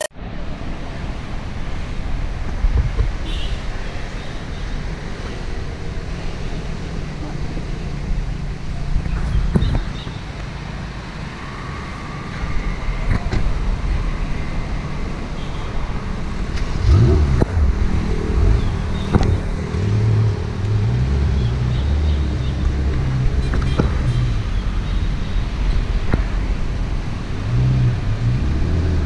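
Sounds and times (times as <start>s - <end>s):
car engines in traffic: 0.0s - 29.0s.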